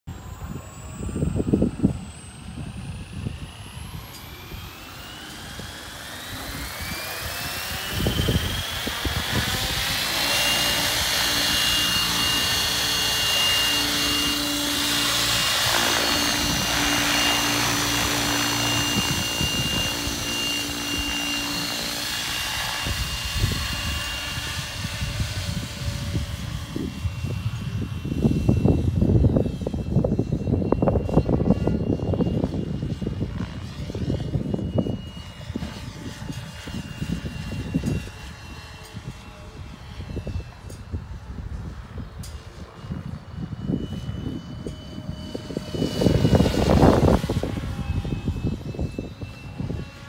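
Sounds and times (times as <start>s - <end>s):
helicopter rotor whine: 0.1s - 50.0s
wind buffeting microphone: 0.1s - 50.0s.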